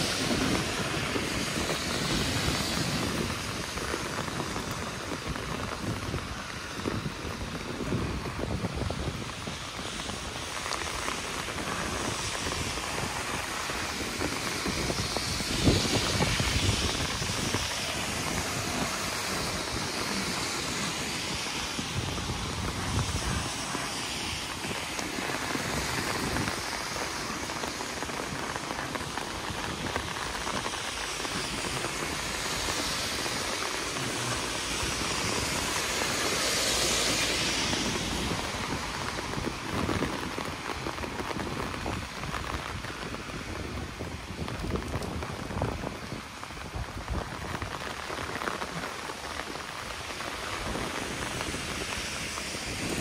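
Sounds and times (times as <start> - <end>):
car tyres hissing on wet road: 0.0 - 53.0
rain on wet paving: 0.0 - 53.0
wind buffeting microphone: 0.0 - 53.0.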